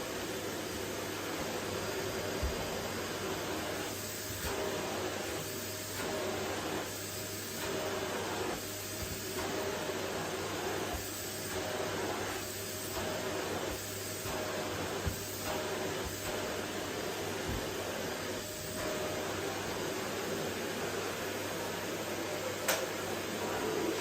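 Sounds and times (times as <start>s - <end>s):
vacuum cleaner on wooden floor: 0.0s - 24.0s.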